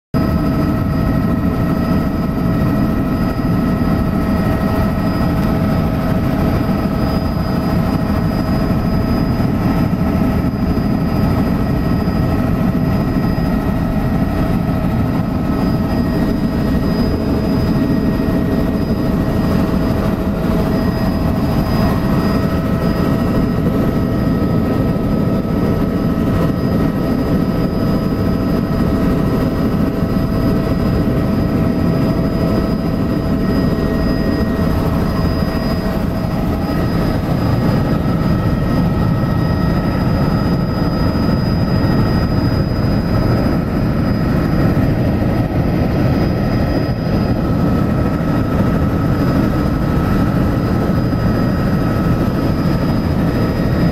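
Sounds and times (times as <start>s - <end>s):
high whining tones: 0.2s - 48.7s
helicopter rotor and engine rumble: 0.2s - 53.9s.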